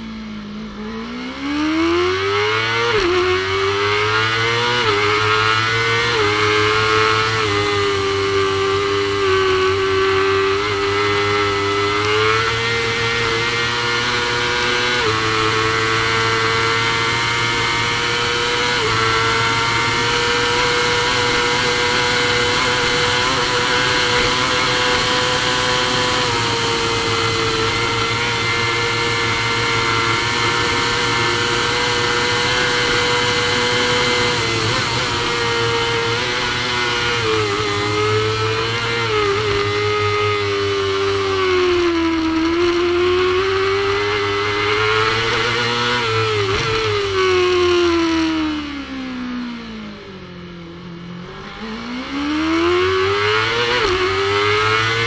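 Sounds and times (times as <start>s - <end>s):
motorcycle engine at full throttle: 0.0s - 55.0s.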